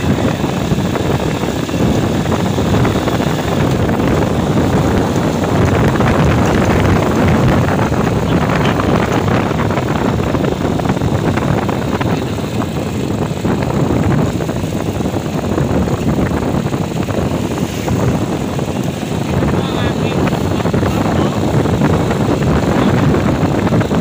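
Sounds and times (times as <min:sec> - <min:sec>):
motorcycle engine: 0:00.0 - 0:24.0
road noise: 0:00.0 - 0:24.0
wind buffeting microphone: 0:00.0 - 0:24.0.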